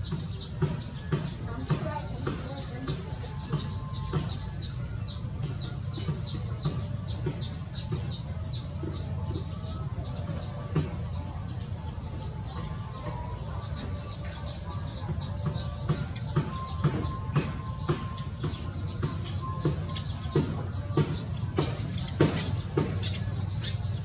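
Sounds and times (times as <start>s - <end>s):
small birds chirping rapidly: 0.0s - 24.0s.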